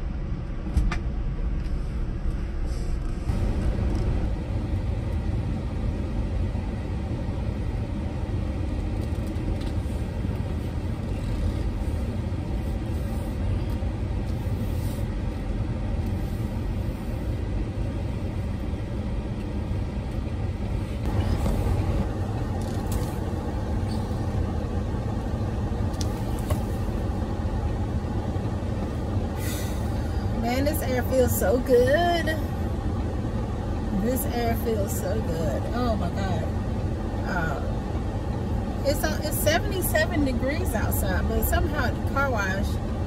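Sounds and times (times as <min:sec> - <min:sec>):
car air conditioning blowing: 0:00.0 - 0:43.0
low rumble: 0:00.0 - 0:43.0.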